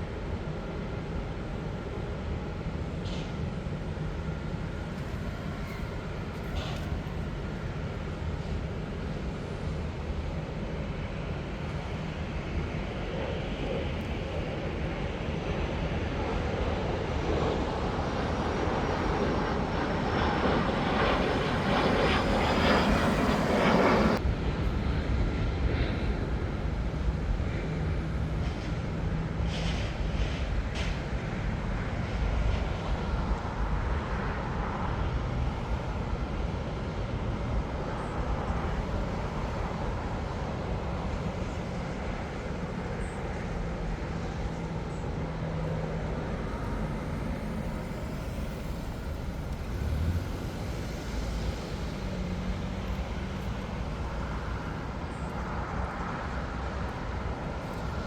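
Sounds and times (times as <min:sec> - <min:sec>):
jet engines rushing: 0:00.0 - 0:58.0
jet rumble with low hum: 0:00.0 - 0:58.0.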